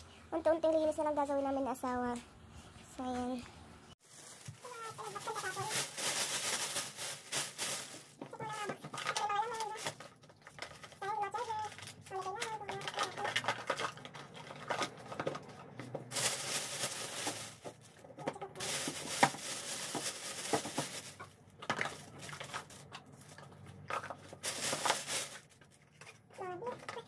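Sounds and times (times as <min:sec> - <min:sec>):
plastic bag rustling and crinkling: 0:04.0 - 0:27.0.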